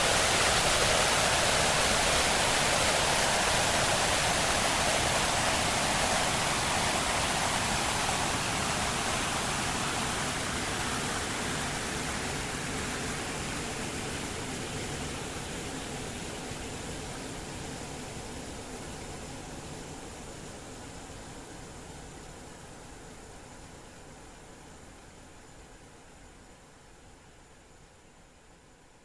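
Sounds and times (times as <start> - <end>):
dense noise music hiss: 0.0 - 29.0.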